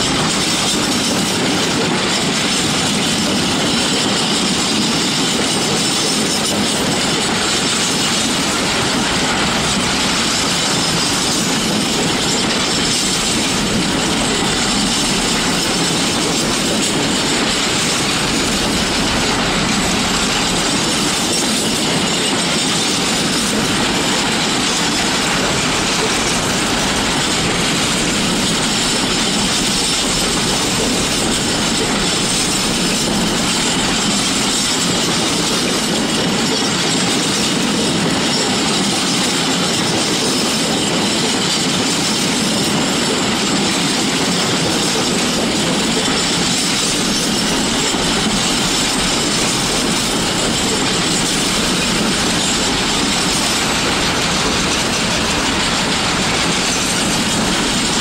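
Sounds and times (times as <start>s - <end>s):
freight wagons rolling on rails: 0.0s - 58.0s.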